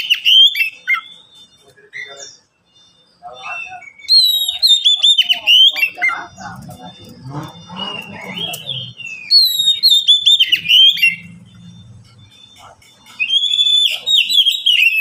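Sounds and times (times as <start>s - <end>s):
bird singing whistled notes: 0.0s - 15.0s.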